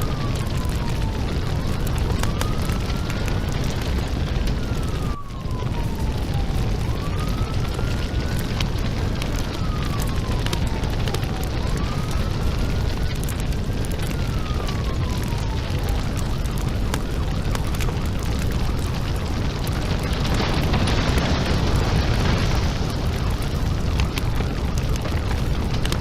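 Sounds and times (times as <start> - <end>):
house fire crackling and popping: 0.0 - 26.0
siren wailing: 0.0 - 26.0.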